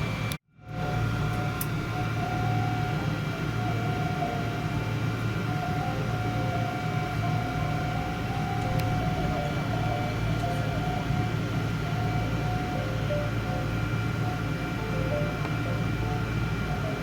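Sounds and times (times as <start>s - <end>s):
vehicle running hum with whine: 0.0s - 17.0s.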